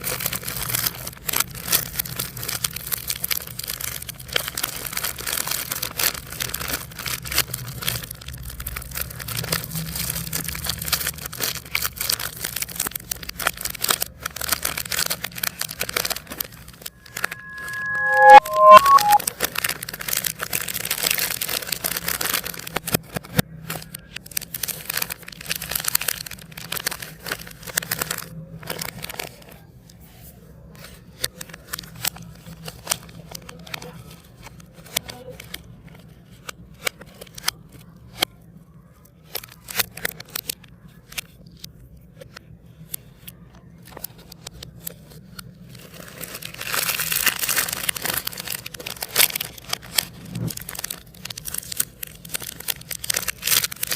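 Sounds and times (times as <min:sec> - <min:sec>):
plastic wrappers crinkling and tearing: 0:00.0 - 0:18.7, 0:19.3 - 0:29.7, 0:30.7 - 0:38.4, 0:39.0 - 0:53.9.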